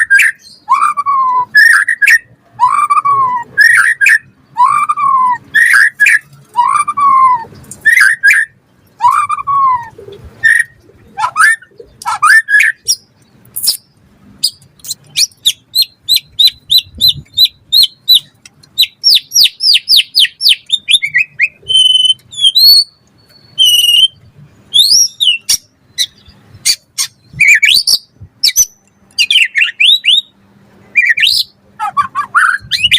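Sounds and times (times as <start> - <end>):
bird singing varied song: 0.0 - 32.9.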